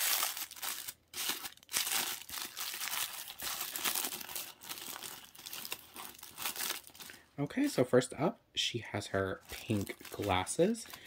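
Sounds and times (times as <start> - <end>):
plastic bag rustling: 0.0 - 7.8, 9.4 - 11.0.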